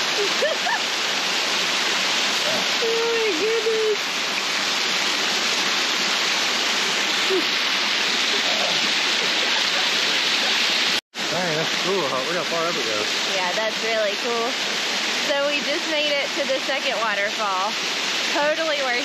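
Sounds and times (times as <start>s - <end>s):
water rushing over rock: 0.0s - 19.0s.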